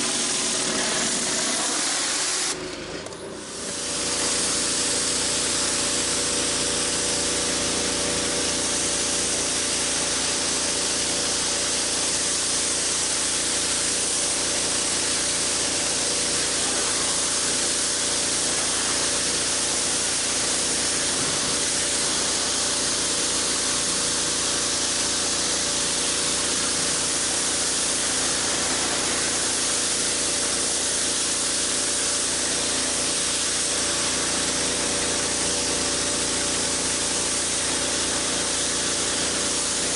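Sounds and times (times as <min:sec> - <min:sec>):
water spraying onto concrete: 0:00.0 - 0:02.6, 0:03.4 - 0:39.9
pressure washer humming: 0:00.0 - 0:39.9.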